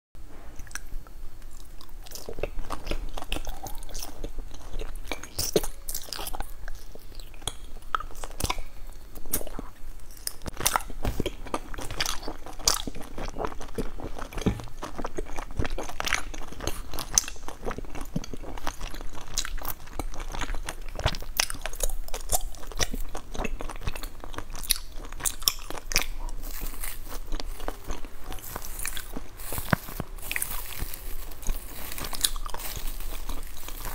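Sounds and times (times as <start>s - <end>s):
chewing and crunching: 0.6s - 33.9s.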